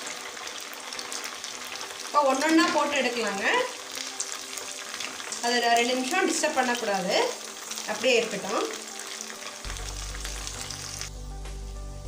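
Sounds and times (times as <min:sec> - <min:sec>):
background music: 0:00.0 - 0:12.0
oil sizzling and bubbling: 0:00.0 - 0:12.0.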